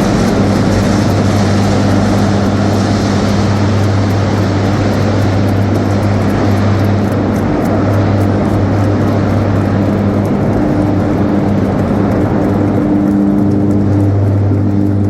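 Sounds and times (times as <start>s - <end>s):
electric arc crackling: 0.0s - 15.0s
low electrical hum: 0.0s - 15.0s.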